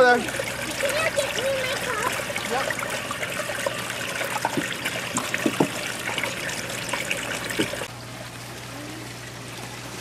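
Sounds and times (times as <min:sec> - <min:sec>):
water trickling through sluice: 0:00.0 - 0:10.0.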